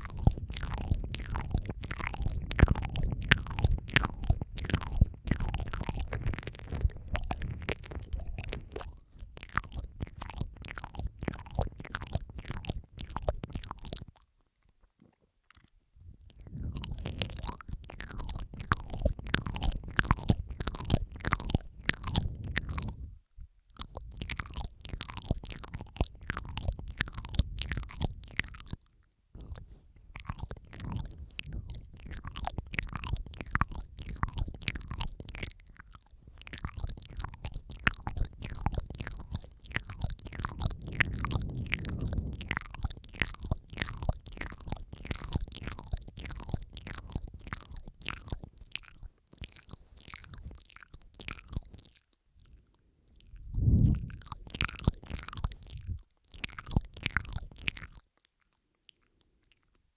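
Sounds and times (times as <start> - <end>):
wet mouth clicks and smacks: 0.0 - 14.8, 15.5 - 59.9.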